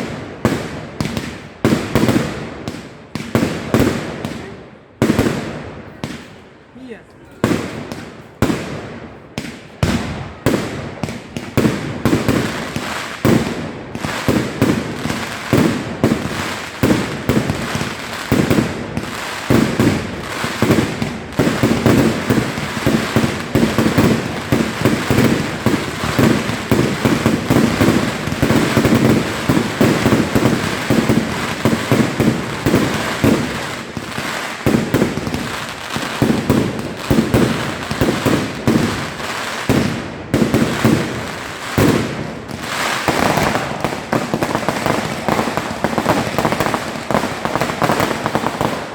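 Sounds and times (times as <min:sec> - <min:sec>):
fireworks bangs: 0:00.0 - 0:06.5, 0:07.4 - 0:48.9.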